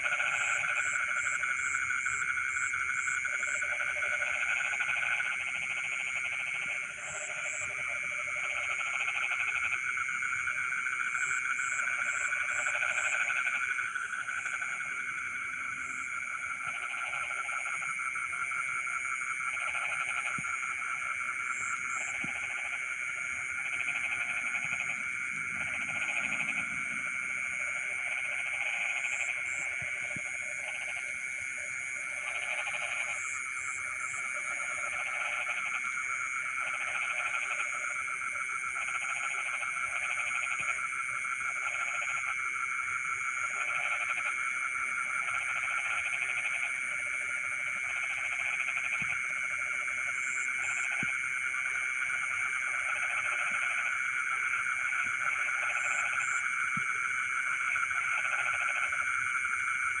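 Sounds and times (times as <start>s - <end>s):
frogs trilling: 0.0s - 60.0s
low frog calls: 0.0s - 60.0s.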